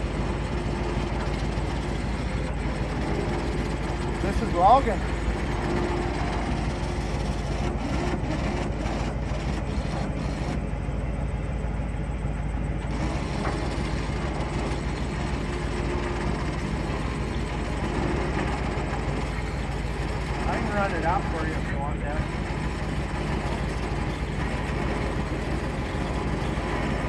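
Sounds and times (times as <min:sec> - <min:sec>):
pickup engine idling: 0:00.0 - 0:27.0.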